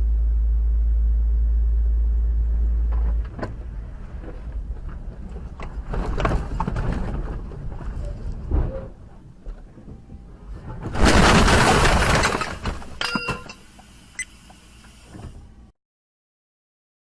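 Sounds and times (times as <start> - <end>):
car engine rumble: 0.0 - 15.7
road noise: 0.0 - 15.7.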